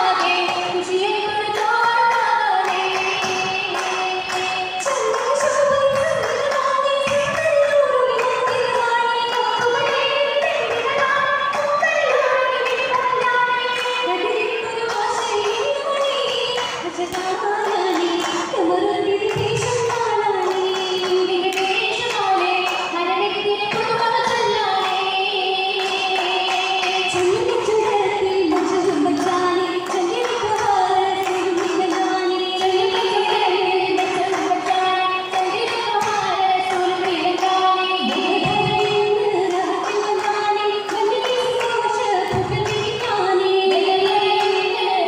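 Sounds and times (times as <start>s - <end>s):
rhythmic hand claps: 0.0s - 45.0s
women singing in unison: 0.0s - 45.0s.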